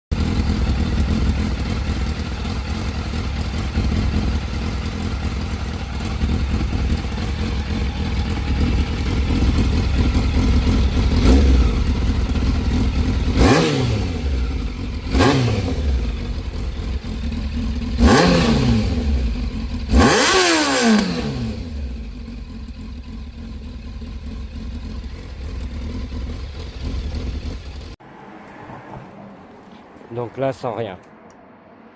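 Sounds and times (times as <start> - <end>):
motorcycle engine idling and revving: 0.1 - 31.9.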